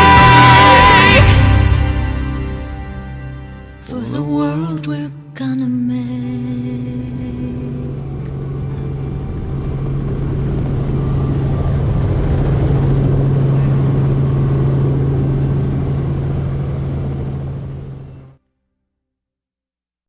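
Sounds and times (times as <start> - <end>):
helicopter droning: 0.0 - 4.5, 6.3 - 18.4.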